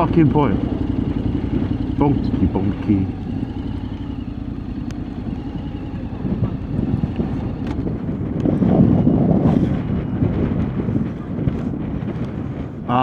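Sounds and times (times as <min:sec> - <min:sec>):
motorcycle engine running: 0:00.0 - 0:13.0
wind noise on microphone: 0:00.0 - 0:13.0.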